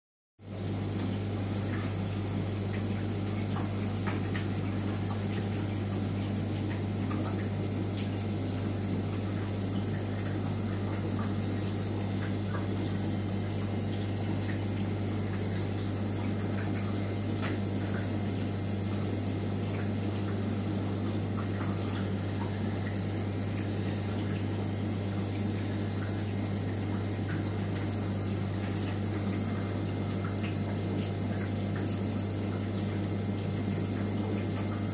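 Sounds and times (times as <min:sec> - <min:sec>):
aquarium pump humming: 0:00.4 - 0:34.9
water trickling: 0:00.4 - 0:34.9.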